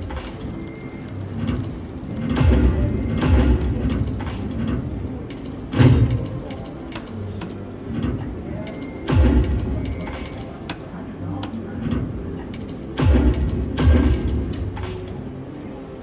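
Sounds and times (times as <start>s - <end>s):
slot machines: 0.0s - 16.0s.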